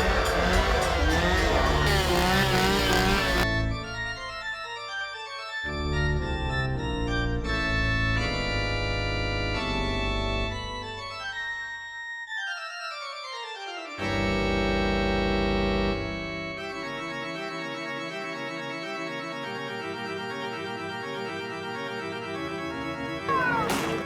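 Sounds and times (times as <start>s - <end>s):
eerie organ chords: 0.0s - 4.6s, 5.7s - 11.5s, 14.0s - 24.0s.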